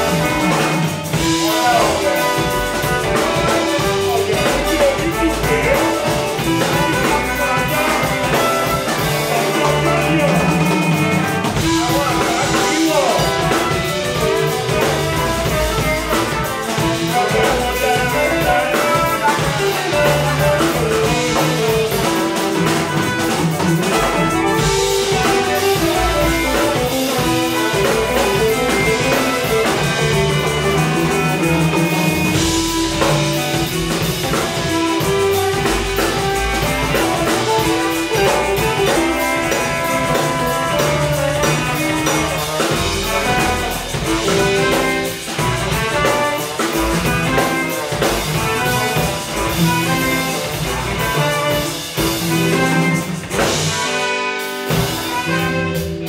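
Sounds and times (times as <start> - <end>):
hand drums: 0.0 - 54.0
drum kit: 0.0 - 56.0
guitar: 0.0 - 56.0
live band playing funk-jazz: 0.0 - 56.0
saxophone: 0.0 - 56.0.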